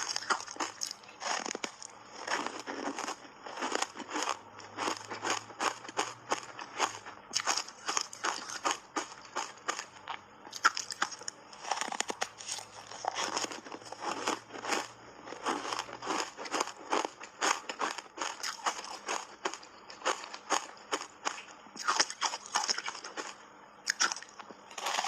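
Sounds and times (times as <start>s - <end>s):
ice being chewed and crunched: 0.0s - 25.0s.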